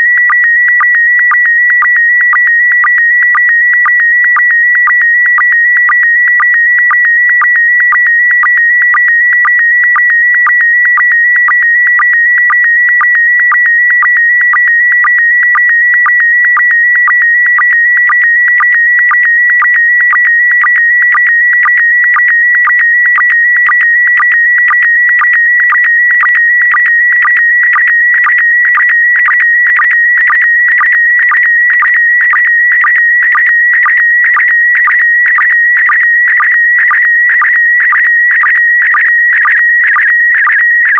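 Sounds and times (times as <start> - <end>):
electronic signal tone: 0.0 - 40.9
short lower-pitched sync pulses: 0.0 - 40.9.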